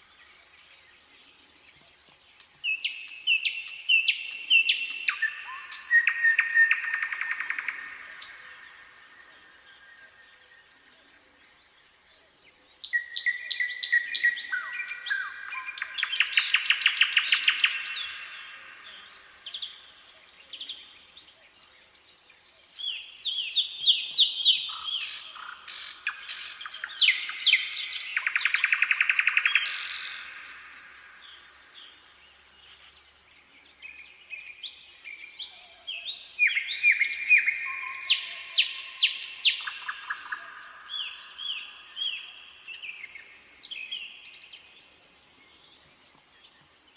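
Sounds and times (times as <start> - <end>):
nightingale singing: 0.0 - 46.9.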